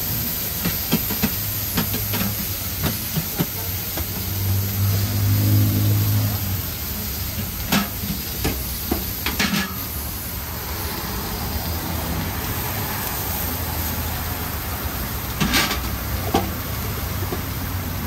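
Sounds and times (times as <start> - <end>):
food frying sizzle: 0.0 - 18.0
street traffic: 0.0 - 18.0
vehicle engine hum: 0.0 - 18.0.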